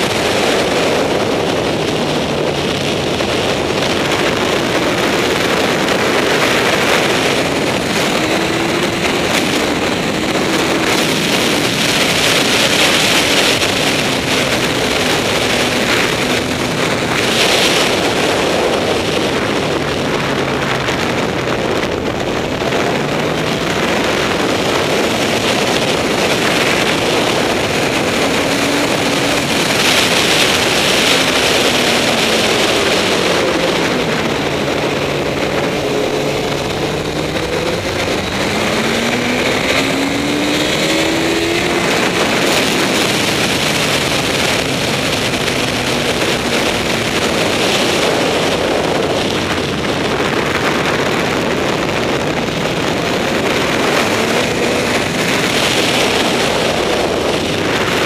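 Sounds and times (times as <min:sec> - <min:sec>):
motorcycle engine at speed: 0:00.0 - 0:58.0
wind rush on microphone: 0:00.0 - 0:58.0.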